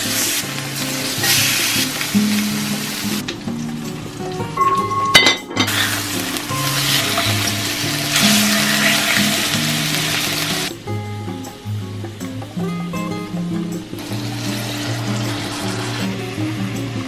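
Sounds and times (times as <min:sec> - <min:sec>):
meat sizzling in a frying pan: 0:00.0 - 0:10.8, 0:13.9 - 0:17.0
soft background music: 0:00.0 - 0:17.0.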